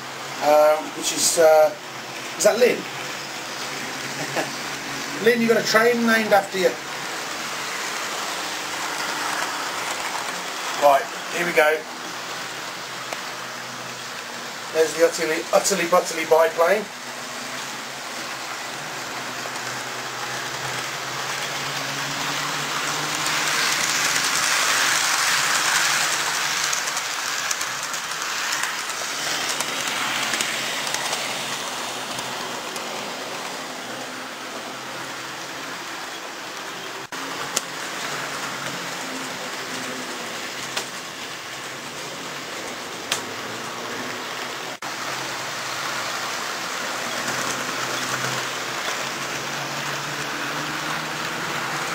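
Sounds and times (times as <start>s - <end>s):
model train wheels rattling: 2.1s - 34.9s, 37.3s - 51.9s.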